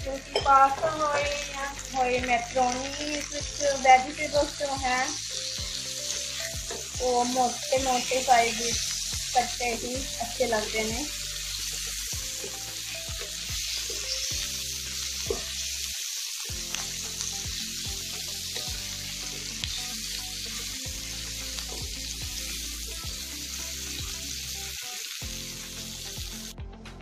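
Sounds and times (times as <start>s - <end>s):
vegetables sizzling in a wok: 0.0s - 26.6s
background music: 0.0s - 27.0s.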